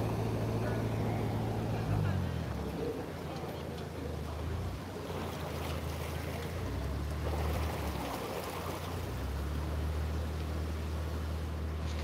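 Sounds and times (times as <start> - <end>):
boat engine humming: 0.0 - 12.0
water rushing and splashing: 0.0 - 12.0.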